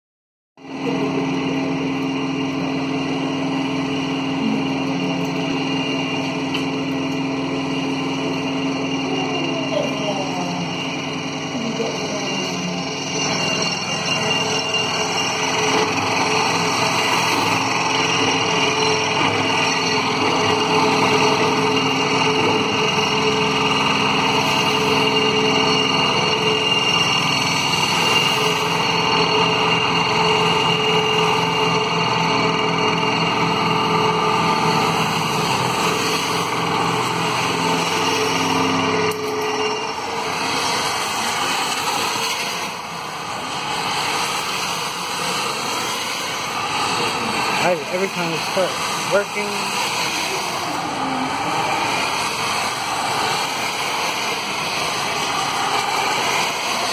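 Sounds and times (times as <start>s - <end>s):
vibratory pile hammer droning: 0.6s - 56.9s.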